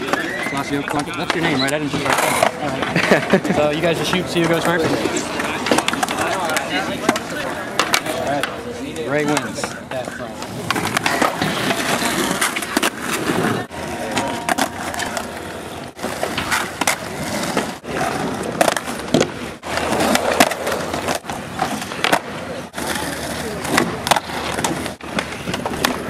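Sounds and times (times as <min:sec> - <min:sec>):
skateboard clacking on ground: 0:00.0 - 0:26.0
skateboard wheels rolling on asphalt: 0:00.0 - 0:26.0.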